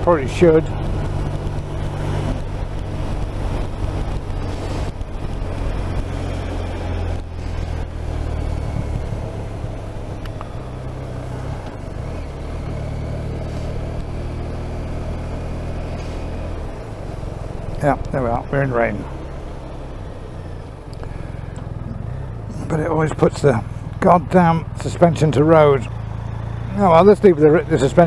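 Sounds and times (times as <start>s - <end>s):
motorcycle engine running: 0.0s - 28.0s
wind and tyres on wet road: 0.0s - 28.0s.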